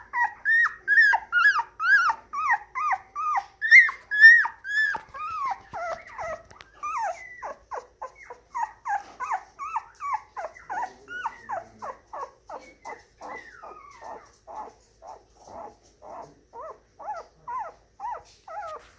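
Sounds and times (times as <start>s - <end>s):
puppy whining: 0.0s - 18.9s.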